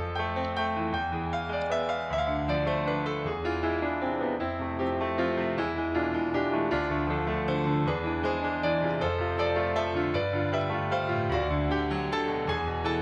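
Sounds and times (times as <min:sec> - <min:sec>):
piano instrumental music: 0:00.0 - 0:13.0.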